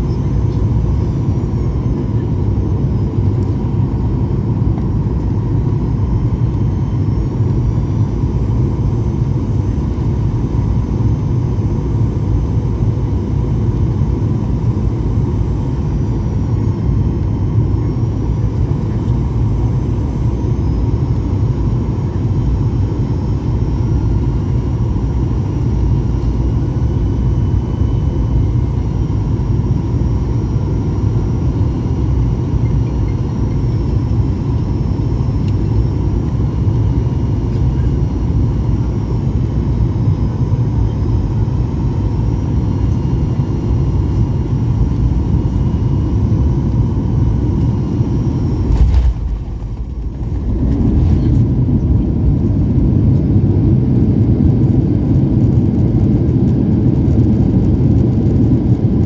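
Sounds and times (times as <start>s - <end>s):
faint high engine whines: 0.0s - 59.0s
jet engines rumbling: 0.0s - 59.0s.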